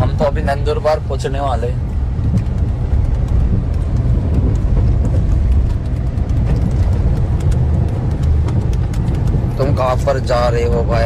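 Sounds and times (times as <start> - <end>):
vehicle rumbling on road: 0.0 - 11.0.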